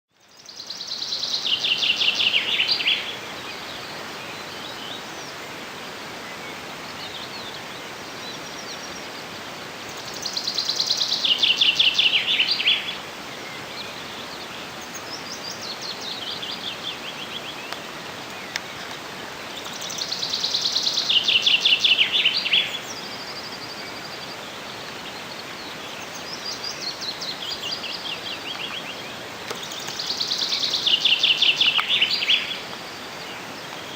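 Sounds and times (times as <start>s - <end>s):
fainter songs of other birds: 0.1s - 33.9s
loud songbird song: 0.1s - 33.9s
steady background hiss: 0.2s - 33.9s.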